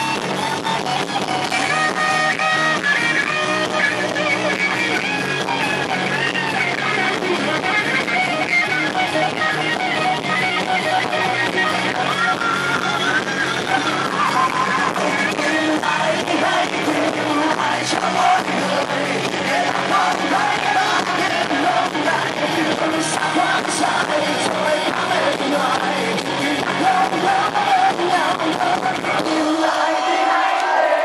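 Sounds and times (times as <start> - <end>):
rock band playing live: 0.0 - 30.2
person singing lead vocal: 1.6 - 31.0.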